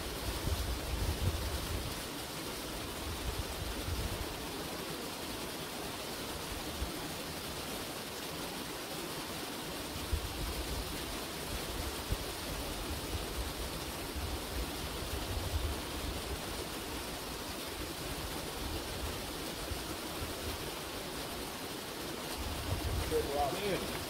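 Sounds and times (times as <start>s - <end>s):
water rushing over spillway: 0.0s - 24.0s.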